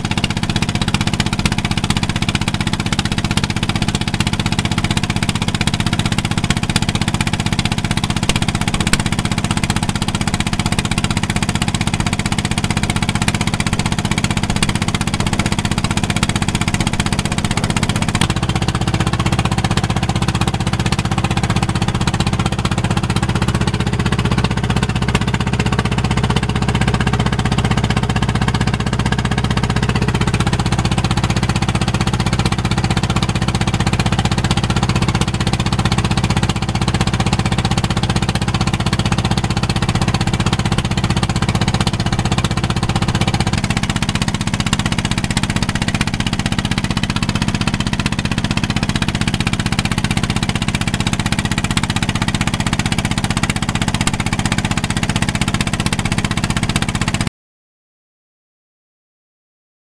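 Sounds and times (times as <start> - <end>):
boat engine droning: 0.0 - 57.3.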